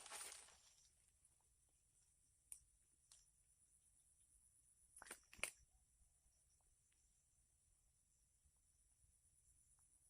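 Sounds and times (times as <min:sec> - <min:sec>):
faint high-pitched hiss: 0:00.0 - 0:10.0.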